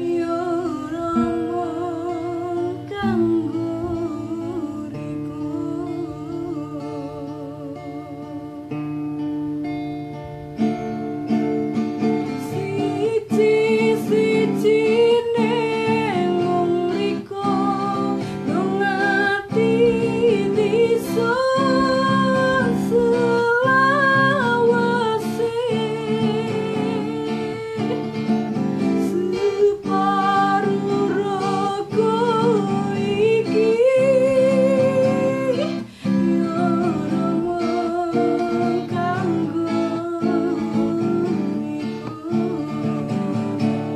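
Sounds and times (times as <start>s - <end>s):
strummed acoustic guitar: 0.0s - 43.9s
woman singing: 0.0s - 43.9s.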